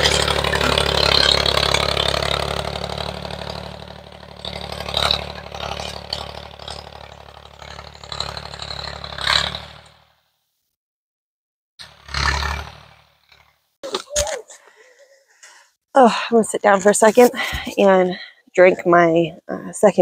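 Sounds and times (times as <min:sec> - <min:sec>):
tractor engine running: 0:00.0 - 0:10.1, 0:11.8 - 0:14.7, 0:15.3 - 0:19.0.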